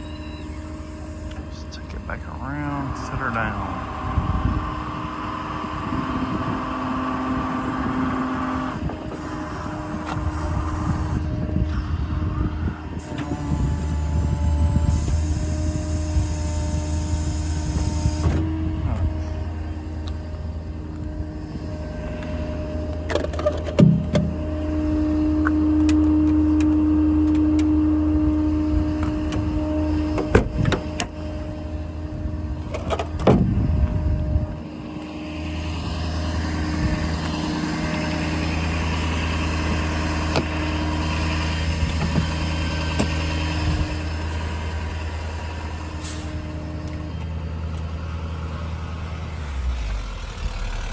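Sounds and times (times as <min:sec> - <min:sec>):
diesel truck engine hum: 0:00.0 - 0:50.9
hydraulic crane whine: 0:00.0 - 0:50.9.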